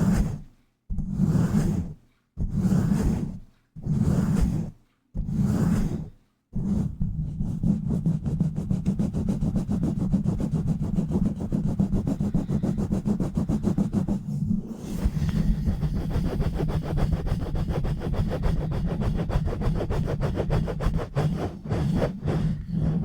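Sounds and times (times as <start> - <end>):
rubbing on bare microphone: 0.0 - 23.0.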